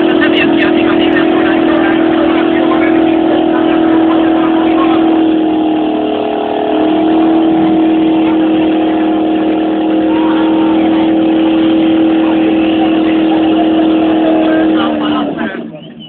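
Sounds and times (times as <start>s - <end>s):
car engine at high revs: 0.0s - 16.0s
tyres spinning: 0.0s - 16.0s.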